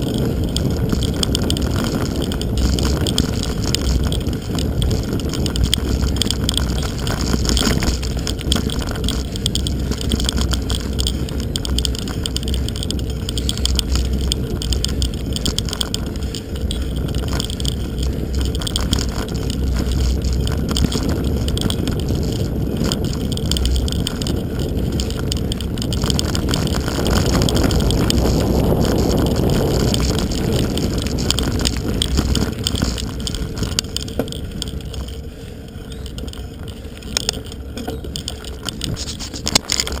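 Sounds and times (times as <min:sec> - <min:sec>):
bike rattling and knocking: 0:00.0 - 0:40.0
bike tyres rolling over dirt: 0:00.0 - 0:40.0
wind rumbling on microphone: 0:00.0 - 0:40.0.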